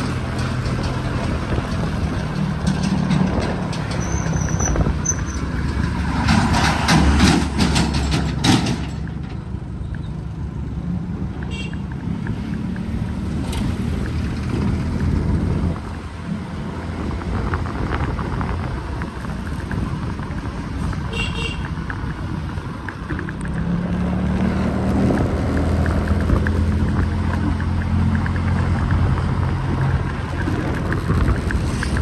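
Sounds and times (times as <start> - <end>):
vehicle engines running: 0.0 - 32.0.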